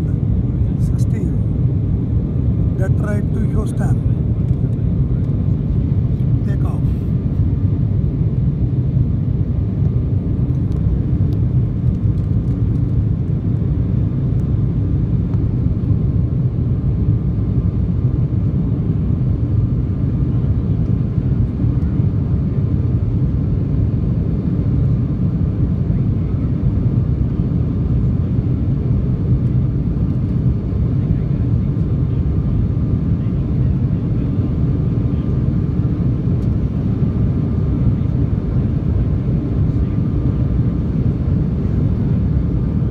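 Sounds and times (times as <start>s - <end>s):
airliner cabin engine roar: 0.0s - 42.9s.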